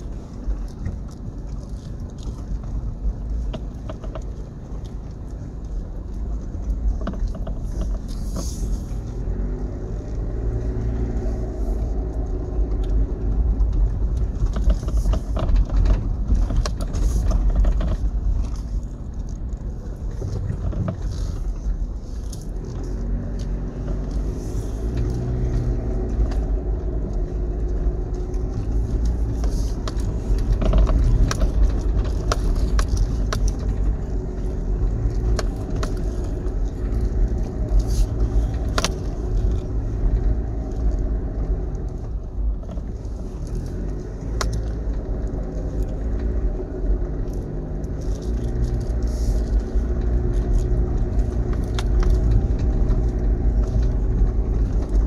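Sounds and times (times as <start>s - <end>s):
car engine running: 0.0s - 55.0s
vehicle knocks and rattles: 0.0s - 55.0s.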